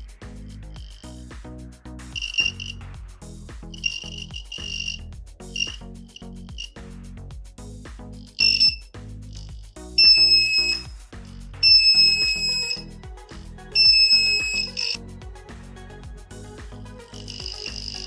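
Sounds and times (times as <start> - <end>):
background music with steady beat: 0.0 - 18.0.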